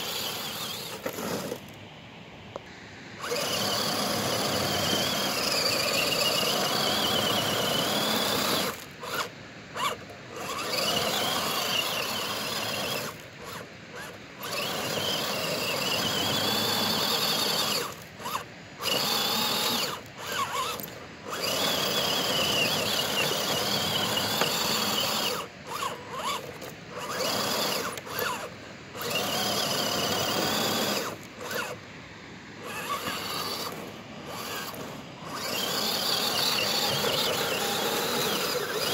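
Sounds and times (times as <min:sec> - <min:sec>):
toy car electric motor whining: 0:00.0 - 0:01.8, 0:03.2 - 0:31.8, 0:32.6 - 0:38.9.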